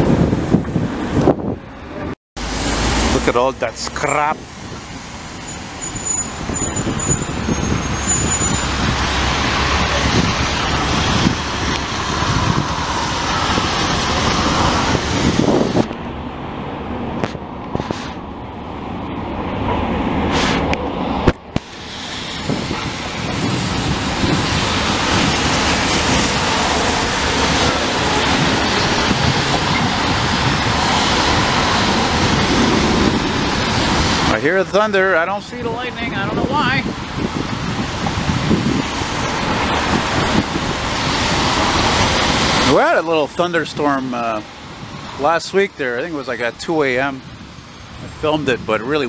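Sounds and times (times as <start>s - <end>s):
tyres hissing on wet road: 2.4s - 15.8s, 20.2s - 20.8s, 21.6s - 49.0s.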